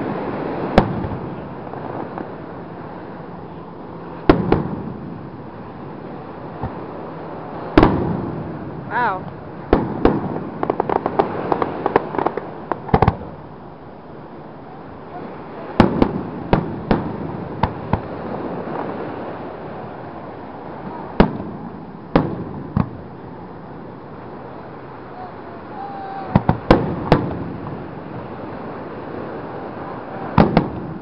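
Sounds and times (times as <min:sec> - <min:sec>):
crackling firework bangs: 0:00.0 - 0:13.5, 0:15.2 - 0:24.8, 0:25.7 - 0:31.0
background hiss: 0:00.0 - 0:31.0.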